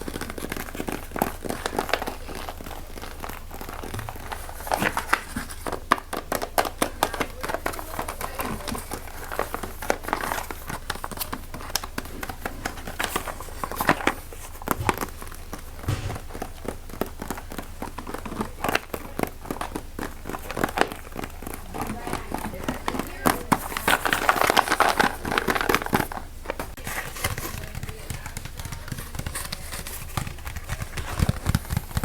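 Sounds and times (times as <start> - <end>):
plastic crinkling: 0.0 - 32.0.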